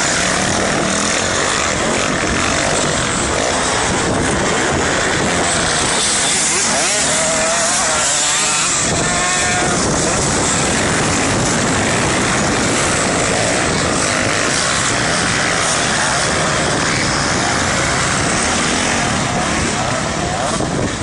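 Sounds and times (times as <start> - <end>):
dirt bike engine: 0.0 - 21.0
loud rushing noise: 0.0 - 21.0.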